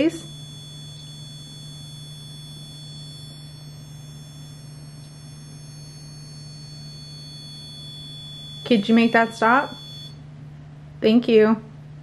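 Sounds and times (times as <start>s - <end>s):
two steady high tones: 0.0s - 10.2s
low steady hum: 0.0s - 12.0s.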